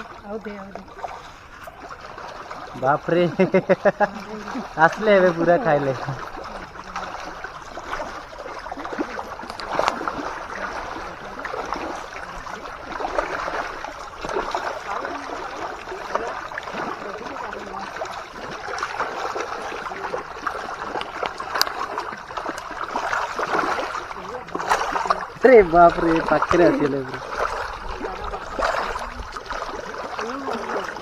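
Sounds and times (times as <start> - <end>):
small water splashes: 0.0 - 31.0
water running and gurgling: 0.0 - 31.0.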